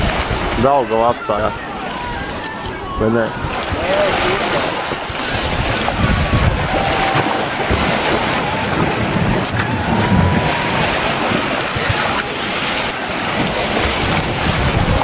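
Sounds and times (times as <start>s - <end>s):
river water rushing among ice: 0.0s - 15.0s
wind buffeting microphone: 0.0s - 15.0s.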